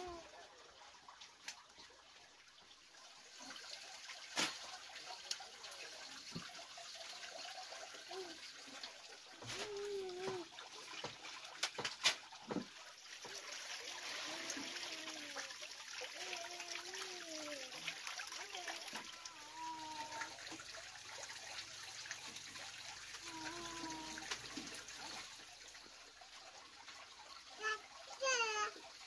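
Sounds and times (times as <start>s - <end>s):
running water trickling: 0.0s - 29.0s.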